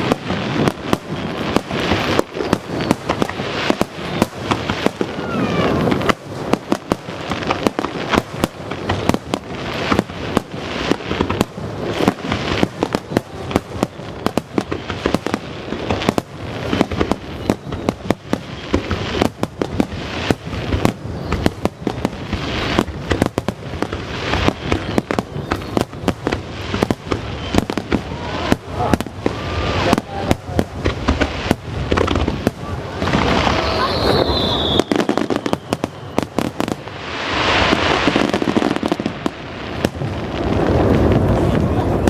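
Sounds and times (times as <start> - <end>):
crackling rumble: 0.0 - 42.0
firework shell bursts and booms: 0.0 - 42.0.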